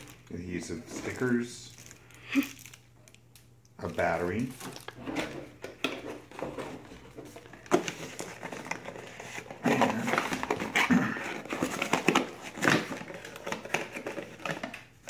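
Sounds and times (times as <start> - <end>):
cardboard packaging rustling: 0.0 - 3.2, 3.8 - 15.0.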